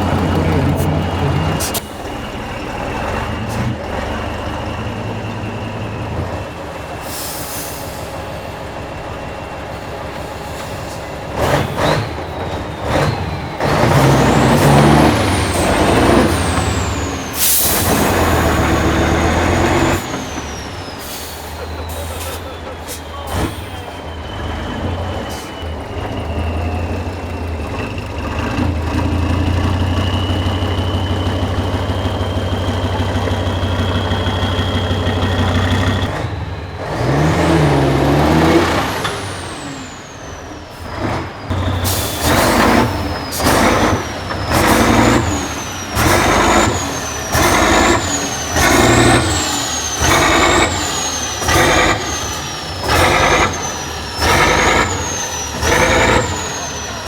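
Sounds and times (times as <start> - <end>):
truck diesel engine revving: 0.0 - 57.0.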